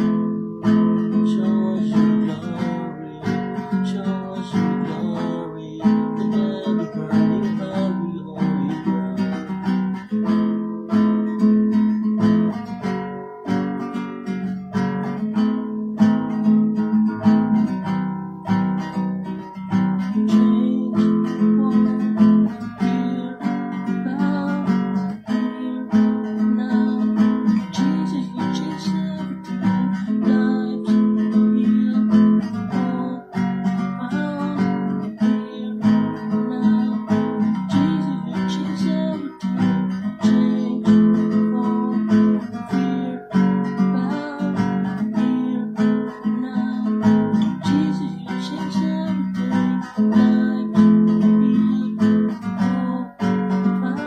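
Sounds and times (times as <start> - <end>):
man singing: 0.0 - 10.6, 18.8 - 54.0
acoustic guitar strumming: 0.0 - 54.0.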